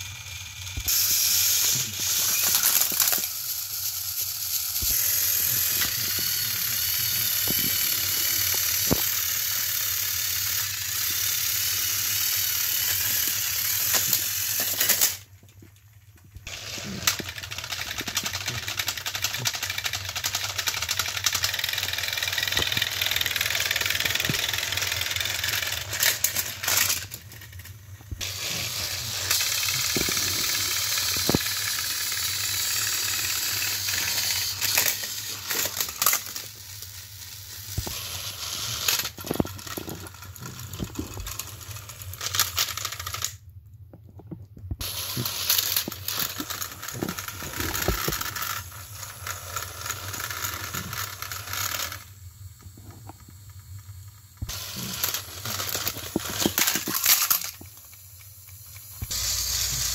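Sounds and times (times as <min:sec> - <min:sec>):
plastic toy clicks and rattles: 0:00.0 - 0:15.5, 0:16.4 - 0:43.4, 0:44.8 - 0:52.2, 0:52.9 - 0:59.9
toy train motors whirring: 0:00.0 - 0:43.5, 0:44.8 - 0:59.9.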